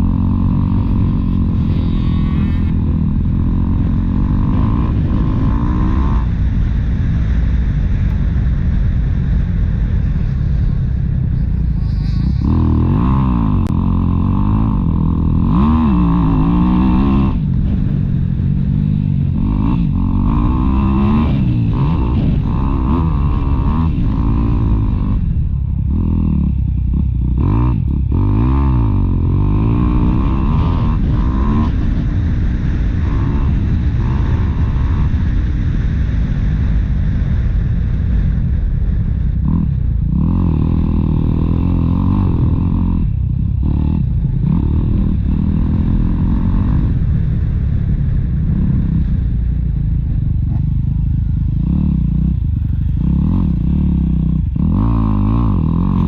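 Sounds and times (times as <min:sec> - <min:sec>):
motocross bike engine revving: 0:00.0 - 0:08.0, 0:10.0 - 0:36.1, 0:39.4 - 0:47.4, 0:50.4 - 0:56.0.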